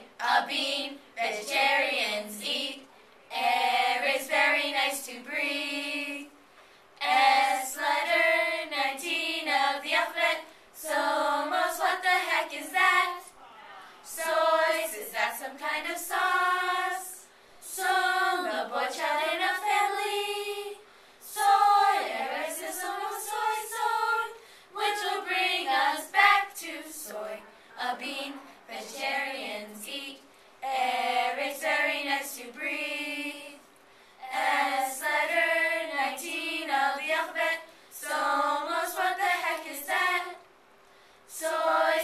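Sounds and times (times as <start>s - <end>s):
girls singing together: 0.0s - 42.0s.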